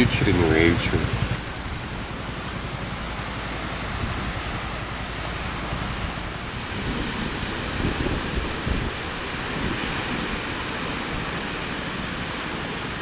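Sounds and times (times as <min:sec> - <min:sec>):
waves washing onto rocky shore: 0:00.0 - 0:13.0.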